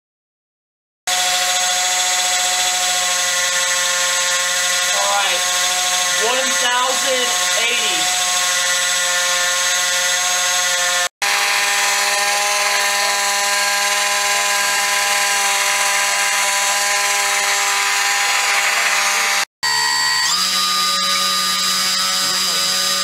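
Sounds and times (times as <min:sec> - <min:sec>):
electric motor whining: 0:01.1 - 0:23.0.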